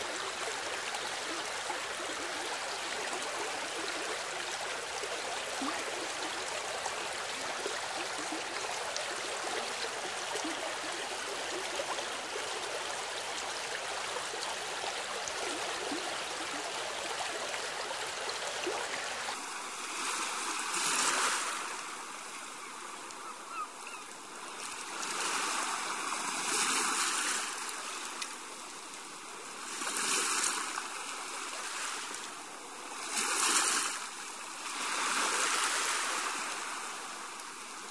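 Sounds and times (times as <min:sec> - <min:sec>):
rushing stream water: 0:00.0 - 0:37.9
surf-like washes of water: 0:00.0 - 0:37.9.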